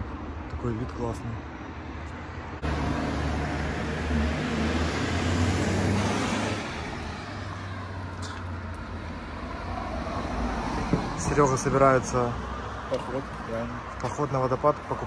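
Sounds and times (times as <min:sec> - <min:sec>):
vehicle passing by: 0:02.6 - 0:15.0.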